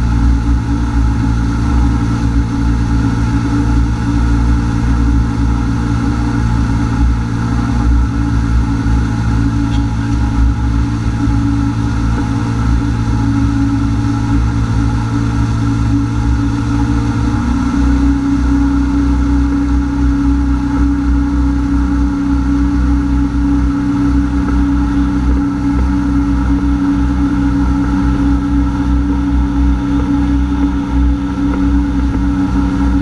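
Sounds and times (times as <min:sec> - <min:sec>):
personal watercraft engine running: 0:00.0 - 0:33.0.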